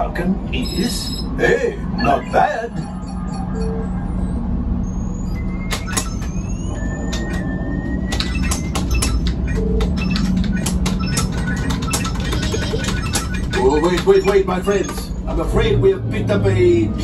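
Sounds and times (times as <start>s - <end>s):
low engine rumble and hum: 0.0s - 17.0s.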